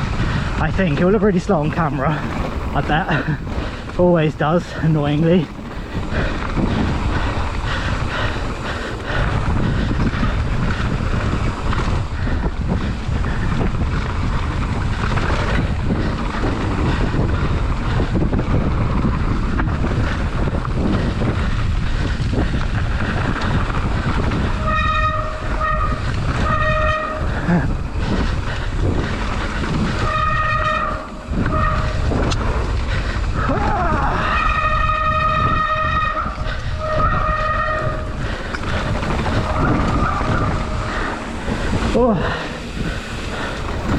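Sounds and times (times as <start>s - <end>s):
bike tyre and frame rattle: 0.0s - 43.9s
wind rush: 0.0s - 43.9s.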